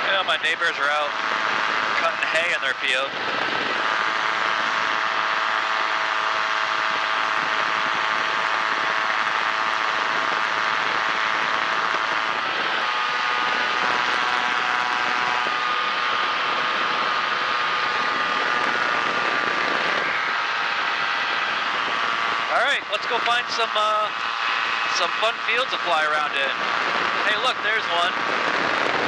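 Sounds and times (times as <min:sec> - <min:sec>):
light aircraft engine droning: 0:00.0 - 0:29.0
wind rush: 0:00.0 - 0:29.0.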